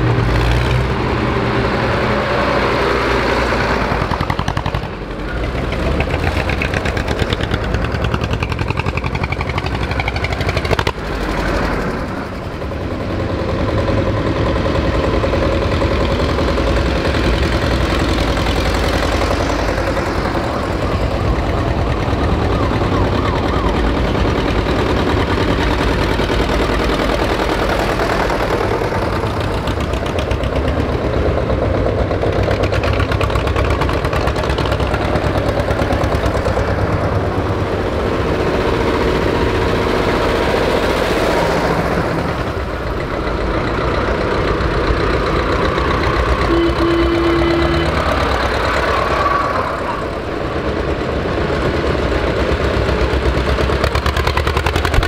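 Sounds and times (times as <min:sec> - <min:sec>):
old tractor engines chugging: 0:00.0 - 0:55.0.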